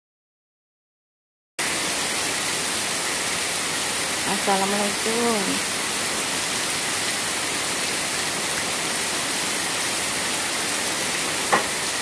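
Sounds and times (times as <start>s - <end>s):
downspout gushing water: 1.6s - 12.0s
heavy rain pouring: 1.6s - 12.0s.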